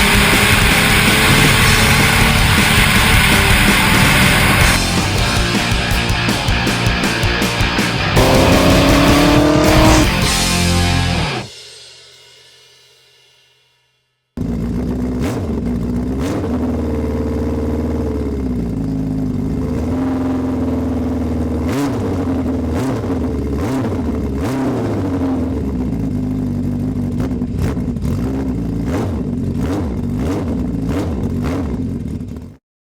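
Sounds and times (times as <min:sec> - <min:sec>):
motorcycle engine revving: 0:00.0 - 0:11.5, 0:14.4 - 0:32.6.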